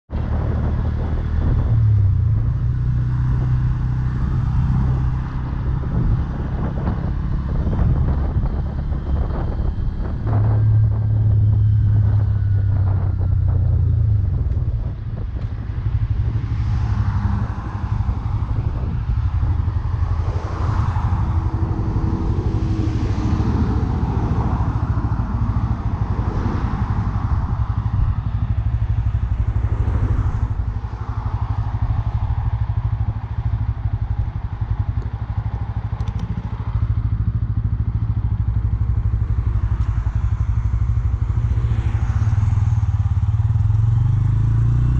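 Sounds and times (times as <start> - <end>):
motorcycle engine running: 0.1 - 44.9.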